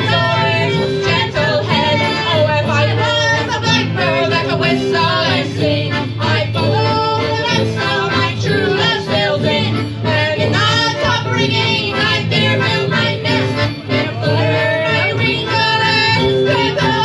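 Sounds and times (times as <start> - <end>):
accordion: 0.0 - 17.0
fiddle: 0.0 - 17.0
guitar: 0.0 - 17.0
sousaphone bass: 0.0 - 17.0.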